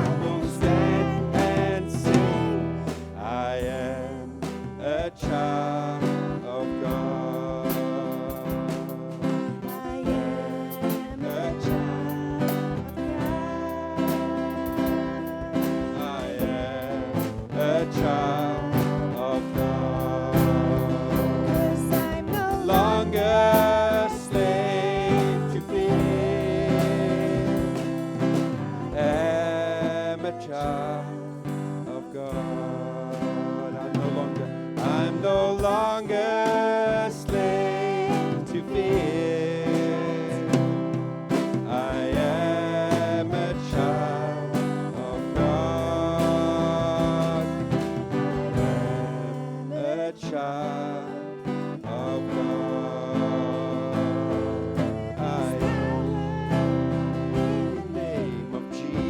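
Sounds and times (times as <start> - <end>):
guitar: 0.0 - 59.0
people singing: 0.0 - 59.0
worship band playing: 0.0 - 59.0.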